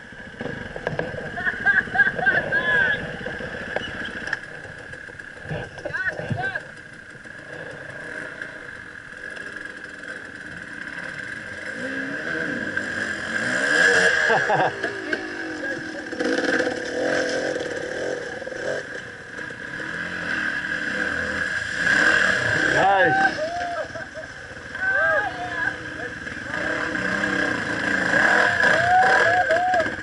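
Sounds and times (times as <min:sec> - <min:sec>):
steady high whine: 0:00.0 - 0:29.6
dirt bike engines revving: 0:00.0 - 0:30.0.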